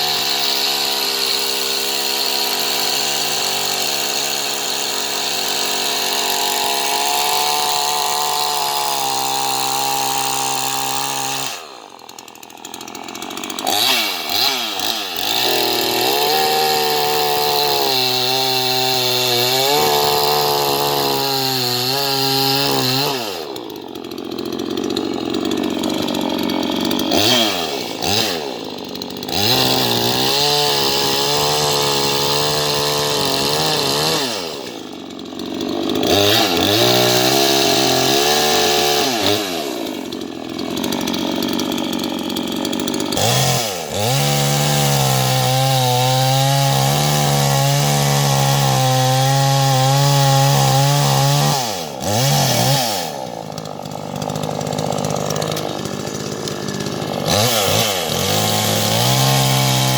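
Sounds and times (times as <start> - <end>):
chainsaw cutting logs: 0.0 - 59.9.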